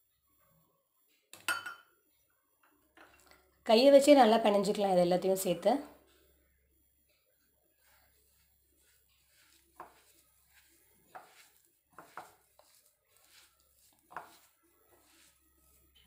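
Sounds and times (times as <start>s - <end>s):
faint rustling of kneading: 2.2s - 16.0s.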